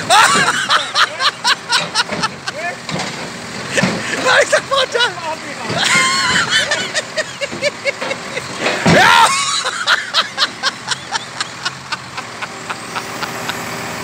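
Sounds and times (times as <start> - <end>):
person laughing hard: 0.0 - 2.7, 3.8 - 13.7
truck engine humming: 0.0 - 14.0.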